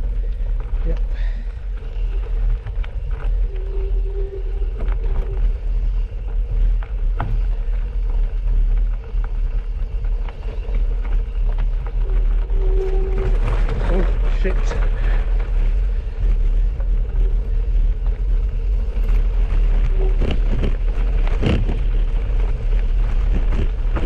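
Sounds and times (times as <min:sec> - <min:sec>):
bike clicks and rattles: 0:00.0 - 0:24.0
wind buffeting microphone: 0:00.0 - 0:24.0.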